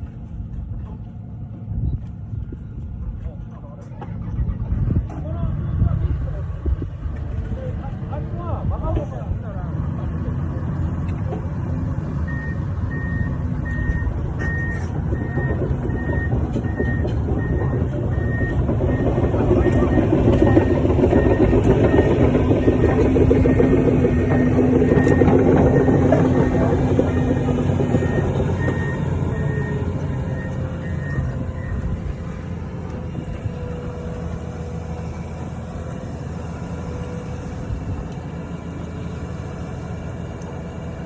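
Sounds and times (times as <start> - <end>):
heavy machine engine running: 0.0 - 41.0.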